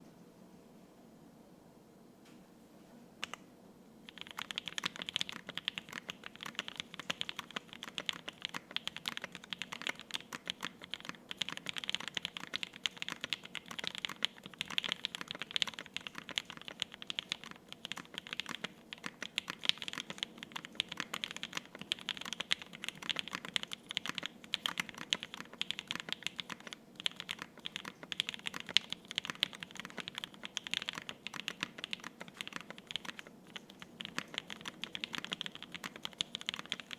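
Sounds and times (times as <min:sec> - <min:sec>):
mechanical keyboard typing: 0:04.1 - 0:36.9.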